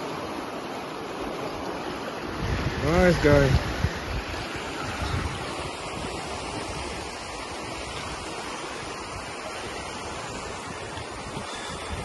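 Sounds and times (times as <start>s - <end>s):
water rushing in canal: 0.0s - 12.0s.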